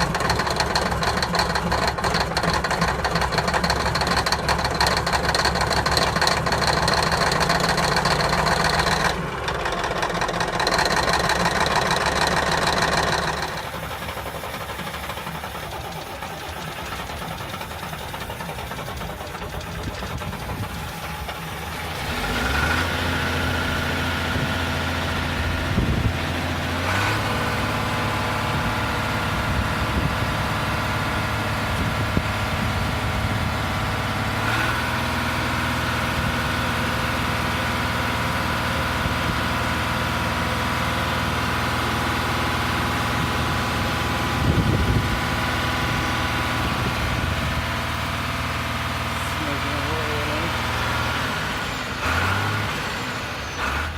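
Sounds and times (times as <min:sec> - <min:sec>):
diesel engines idling: 0:00.0 - 0:53.9.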